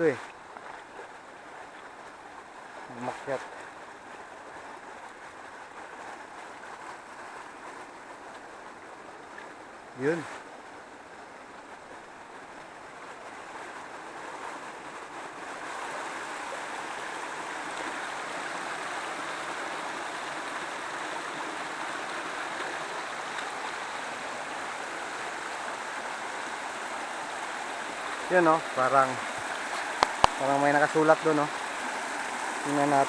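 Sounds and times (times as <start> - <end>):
stream cascading over rocks: 0.0 - 33.0.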